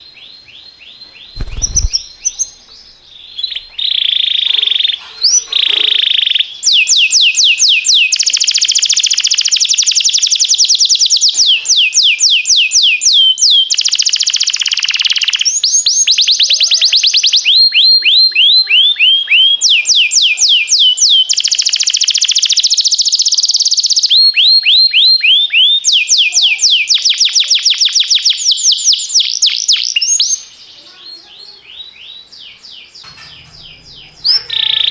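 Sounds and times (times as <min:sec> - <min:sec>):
canary singing trills: 0:01.0 - 0:34.9.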